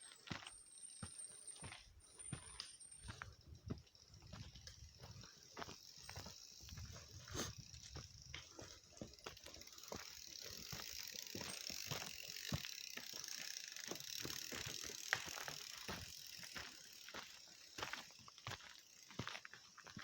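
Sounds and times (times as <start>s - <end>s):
bicycle freewheel ticking: 0.0s - 20.0s.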